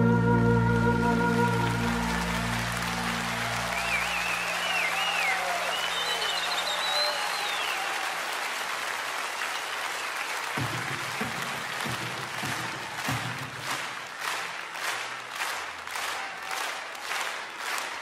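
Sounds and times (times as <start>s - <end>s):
audience applauding: 0.7s - 18.0s.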